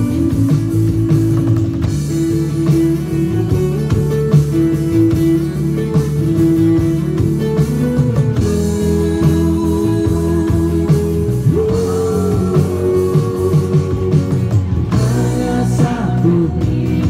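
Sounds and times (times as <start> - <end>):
drums played with sticks: 0.0 - 17.0
guitar: 0.0 - 17.0.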